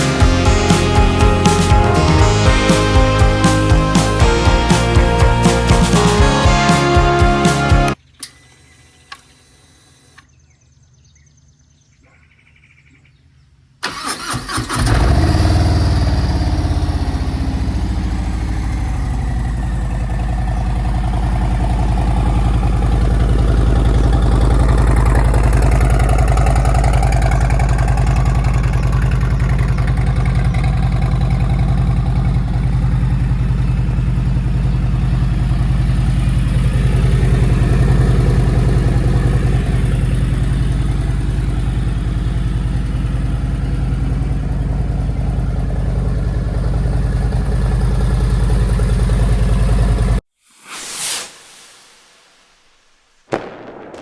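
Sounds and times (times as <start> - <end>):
motorcycle engine starting and idling: 0.0 - 10.6, 13.8 - 50.2.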